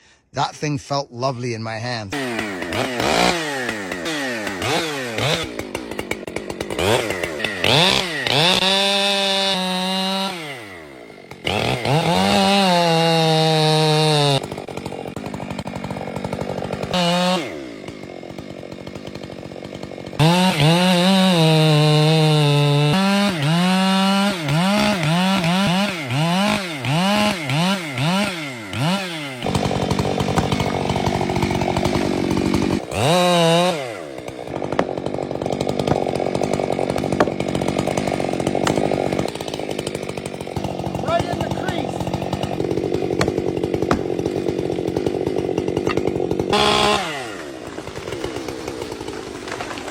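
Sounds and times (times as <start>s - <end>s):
chainsaw engine revving: 2.1s - 49.9s.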